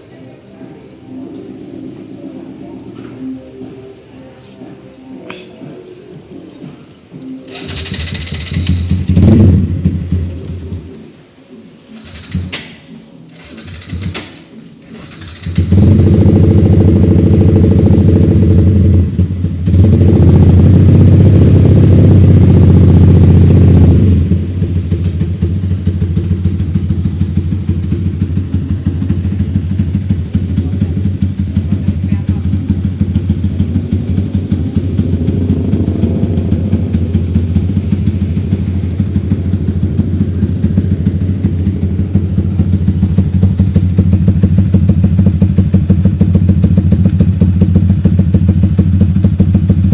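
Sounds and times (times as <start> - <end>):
motorcycle engine with loud exhaust: 7.5 - 11.0, 12.0 - 49.9.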